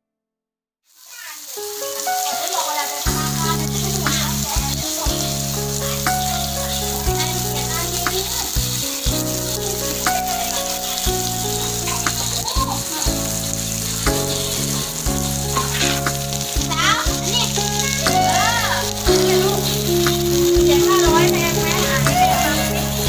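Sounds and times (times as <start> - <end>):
meat sizzling on a grill: 0.9 - 23.0
background music with sustained chords: 2.8 - 23.0.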